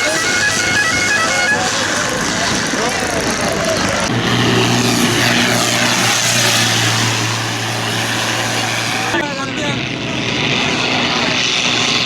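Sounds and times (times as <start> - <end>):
loud rushing noise: 0.0 - 11.9
tractor engine droning: 0.0 - 11.9.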